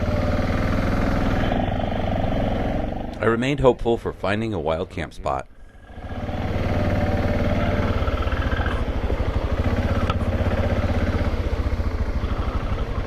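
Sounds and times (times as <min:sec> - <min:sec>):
motorcycle engine running: 0:00.0 - 0:04.9, 0:05.6 - 0:13.0.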